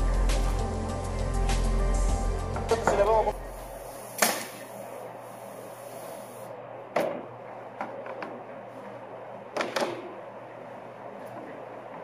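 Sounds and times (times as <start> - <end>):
steady shop hum: 0.0 - 12.0.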